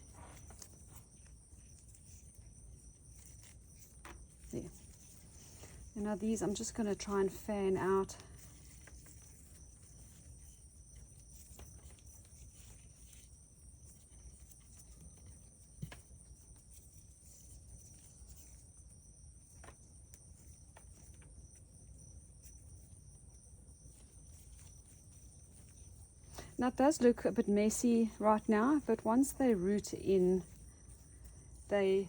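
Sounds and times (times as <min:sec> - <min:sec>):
faint insect buzz: 0:00.0 - 0:32.0.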